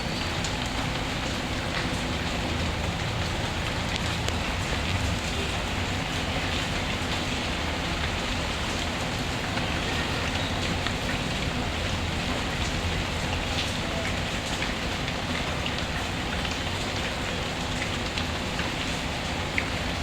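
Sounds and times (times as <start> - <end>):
steady rain hissing: 0.0 - 20.0.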